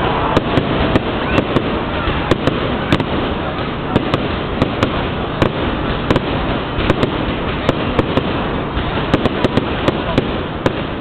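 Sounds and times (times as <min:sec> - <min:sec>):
fireworks bangs: 0:00.0 - 0:11.0
fireworks rumble and crackle: 0:00.0 - 0:11.0.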